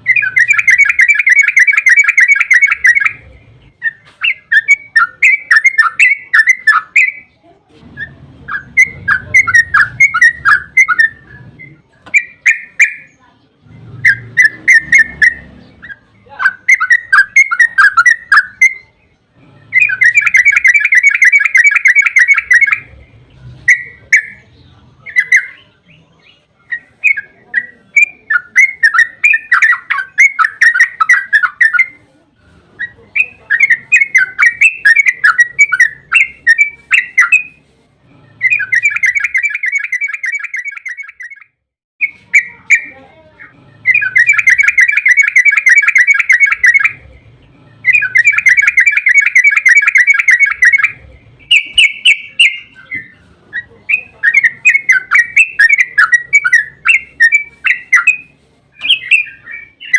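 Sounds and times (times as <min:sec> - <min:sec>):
bulbul chattering song: 0:00.0 - 0:59.9.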